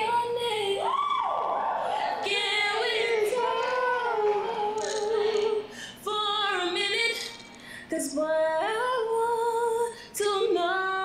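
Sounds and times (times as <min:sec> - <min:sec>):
woman singing a cappella: 0:00.0 - 0:11.0.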